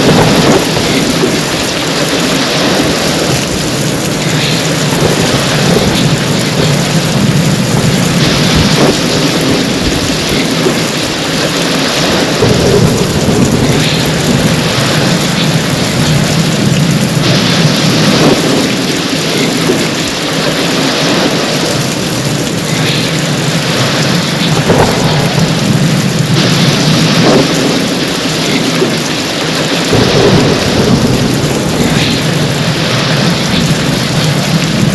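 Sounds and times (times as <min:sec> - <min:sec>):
heavy rain pouring: 0:00.0 - 0:34.9
low rumble of thunder: 0:00.0 - 0:34.9.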